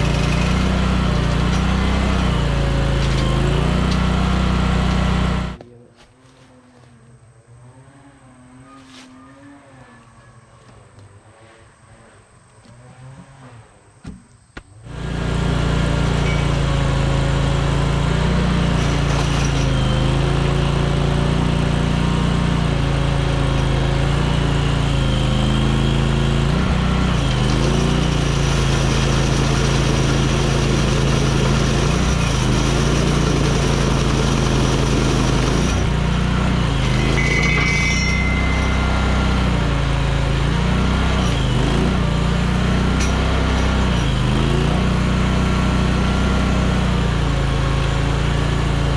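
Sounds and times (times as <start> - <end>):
engine running steadily: 0.0 - 7.0, 10.0 - 48.9.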